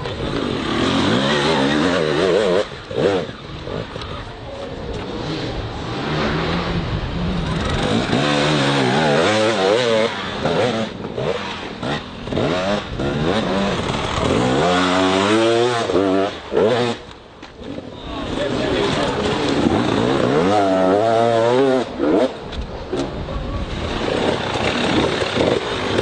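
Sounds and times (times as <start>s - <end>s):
motorbike engine revving: 0.0s - 26.0s.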